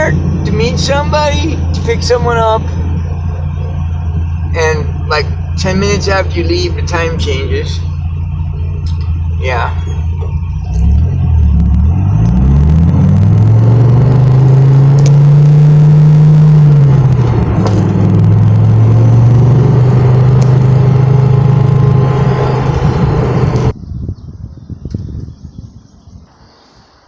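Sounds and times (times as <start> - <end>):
car engine accelerating and cruising: 0.0 - 23.8.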